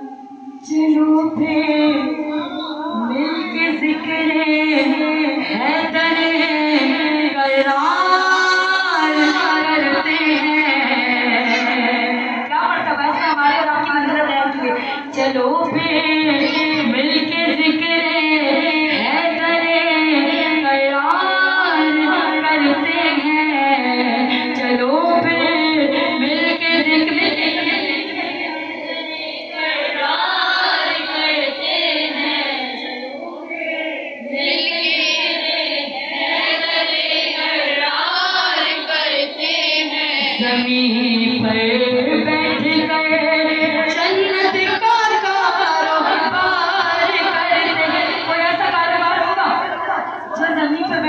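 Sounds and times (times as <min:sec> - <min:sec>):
woman singing into a microphone: 0:00.0 - 0:51.0.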